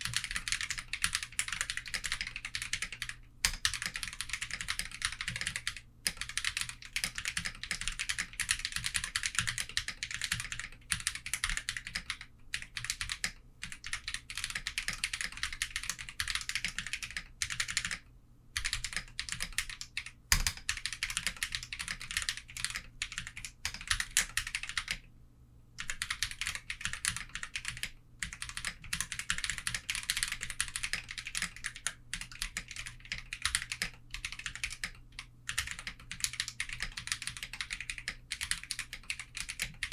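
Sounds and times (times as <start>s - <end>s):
fast typing on mechanical keyboard: 0.0s - 18.0s, 18.6s - 25.0s, 25.8s - 39.9s.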